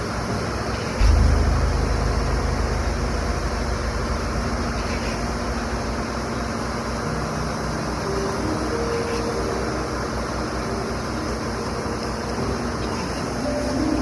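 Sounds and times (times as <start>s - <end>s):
concrete pump truck running: 0.0s - 14.0s.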